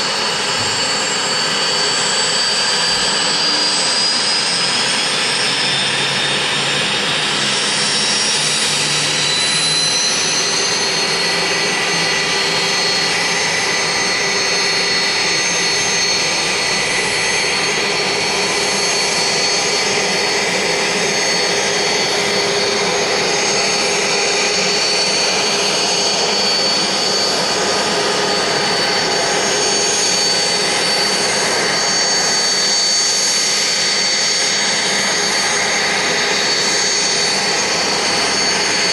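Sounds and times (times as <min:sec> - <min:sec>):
helicopter turbine whine: 0:00.0 - 0:38.9.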